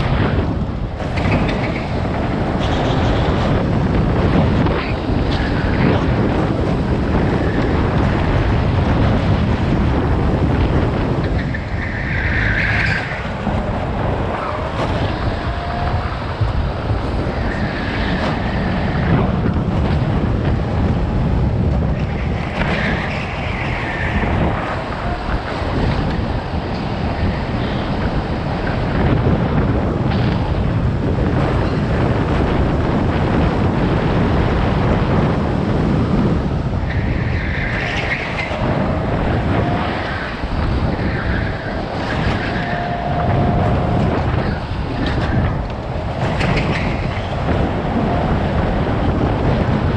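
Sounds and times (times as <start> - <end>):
go-kart engine racing: 0.0 - 49.9
wind noise on microphone: 0.0 - 49.9.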